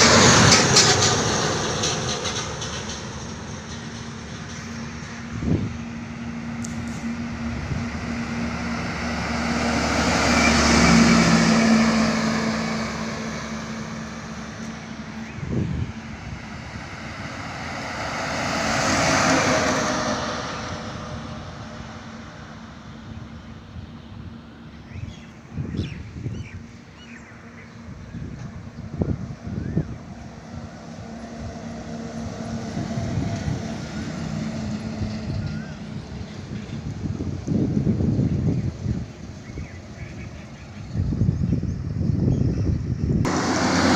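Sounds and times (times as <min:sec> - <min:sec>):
vehicles passing on highway: 0:00.0 - 0:43.9.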